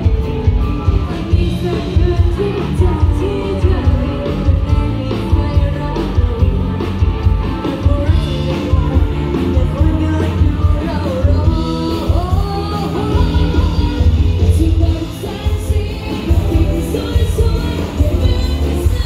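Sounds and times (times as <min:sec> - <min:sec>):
loud rock music with singing: 0:00.0 - 0:19.0.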